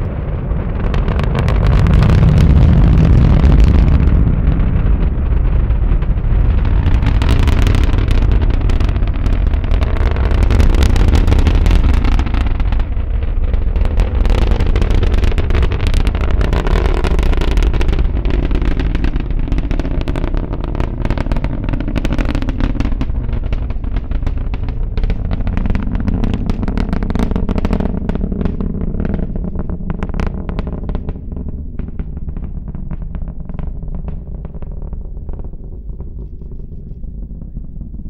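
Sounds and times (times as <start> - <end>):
rocket engines rumbling: 0.0 - 38.0.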